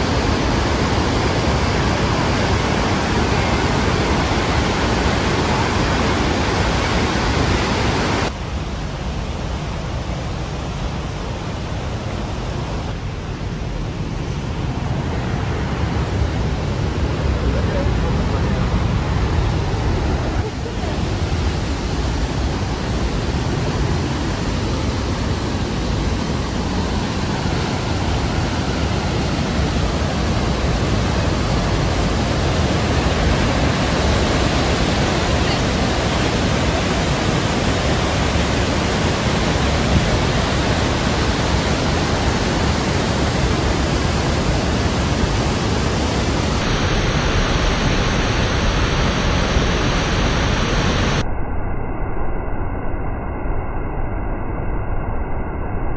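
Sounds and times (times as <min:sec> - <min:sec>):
waterfall rushing: 0:00.0 - 0:13.1, 0:14.4 - 0:51.2.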